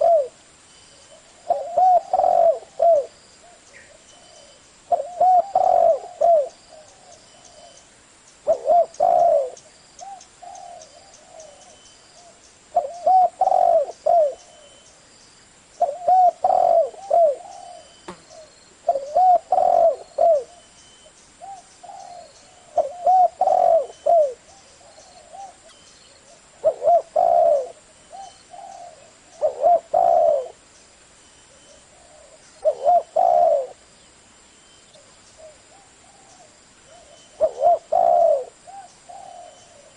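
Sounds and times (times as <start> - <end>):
dove cooing: 0.0 - 0.4, 1.1 - 7.8, 8.4 - 14.8, 15.8 - 20.7, 21.4 - 30.6, 31.5 - 33.8, 34.9 - 39.9.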